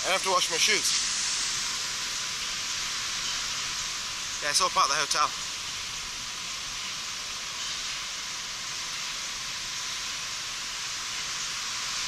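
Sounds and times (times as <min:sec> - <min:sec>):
sea surf hissing: 0:00.0 - 0:12.0.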